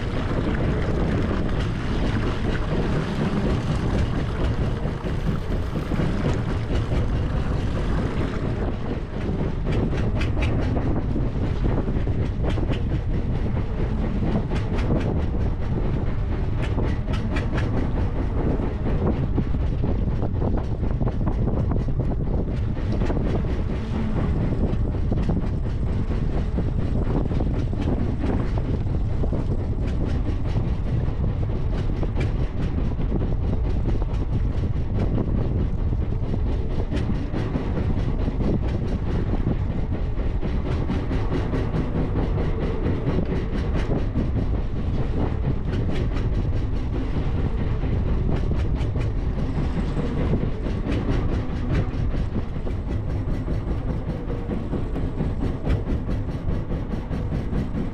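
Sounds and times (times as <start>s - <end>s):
small boat at sea: 0.0s - 57.9s
wind rumble: 0.0s - 57.9s.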